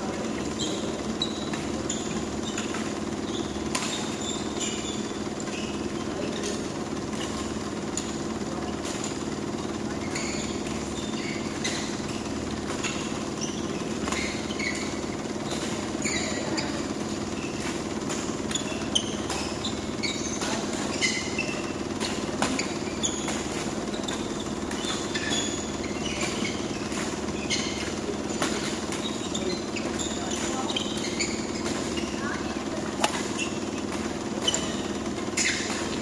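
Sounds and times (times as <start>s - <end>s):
court shoes squeaking: 0.0s - 36.0s
low hall hum: 0.0s - 36.0s
rackets hitting shuttlecock: 0.1s - 36.0s.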